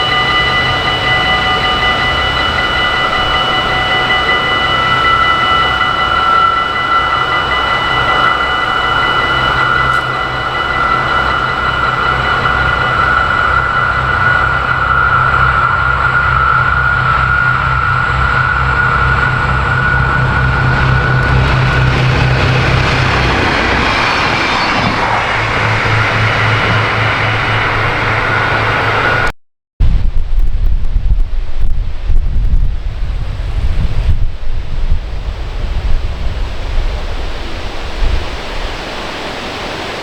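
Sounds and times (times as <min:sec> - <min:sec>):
train rumbling past: 0:00.0 - 0:29.3, 0:32.0 - 0:40.0
high whine: 0:00.0 - 0:40.0
rushing noise: 0:00.0 - 0:40.0.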